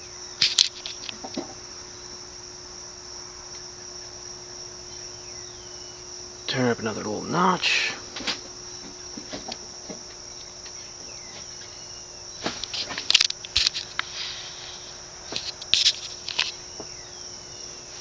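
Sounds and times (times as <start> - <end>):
high-pitched insect-like chirring: 0.0 - 2.4, 3.2 - 18.0
ceiling fan humming: 0.0 - 18.0.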